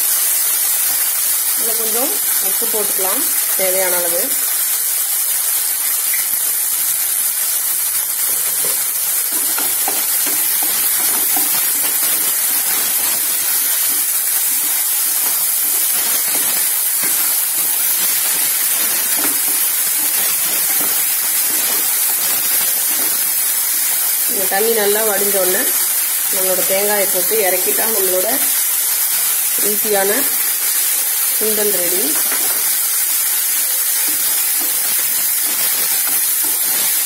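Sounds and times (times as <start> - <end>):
lentils sizzling in hot oil: 0.0 - 37.0.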